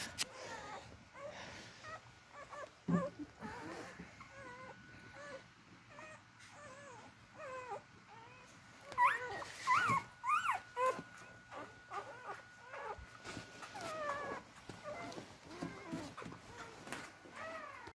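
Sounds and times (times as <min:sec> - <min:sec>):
puppies whimpering and squeaking: 0:00.0 - 0:17.9.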